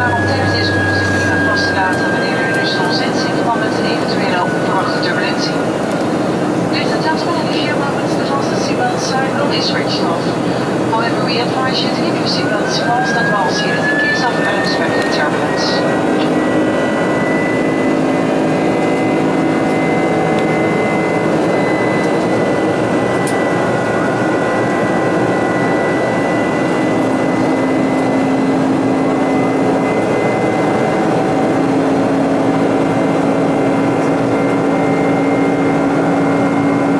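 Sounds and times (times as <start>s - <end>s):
steady tones: 0.0s - 33.1s
jet engines humming: 0.0s - 36.9s.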